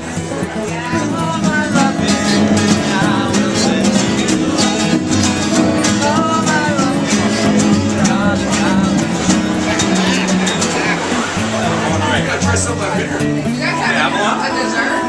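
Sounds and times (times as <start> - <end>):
acoustic guitars strumming: 0.0 - 15.0
men singing: 0.0 - 15.0.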